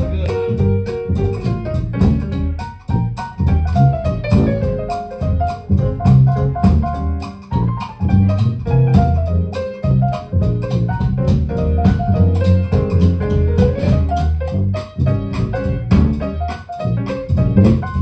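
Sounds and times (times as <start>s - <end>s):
drum kit steady beat: 0.0s - 18.0s
piano: 0.0s - 18.0s
sousaphone bass line: 0.0s - 18.0s.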